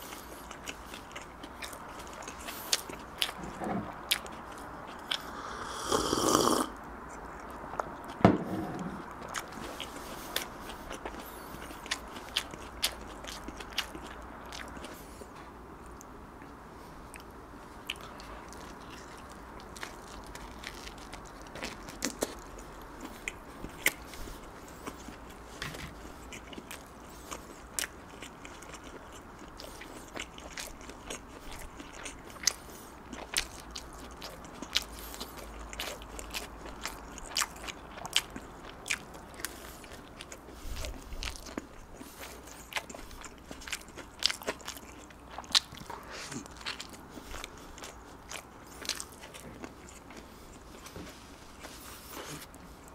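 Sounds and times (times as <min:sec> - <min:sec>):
chewing with wet mouth clicks: 0:00.0 - 0:03.4, 0:04.0 - 0:05.3, 0:09.1 - 0:15.2, 0:15.8 - 0:51.0.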